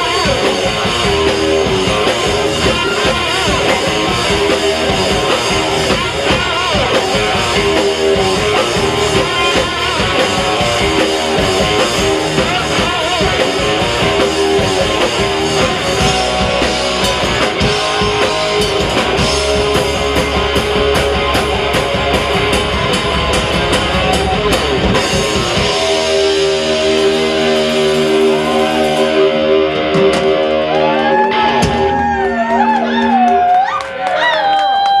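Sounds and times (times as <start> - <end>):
sustained electric guitar notes: 0.0 - 33.7
live rock band playing: 0.0 - 35.0.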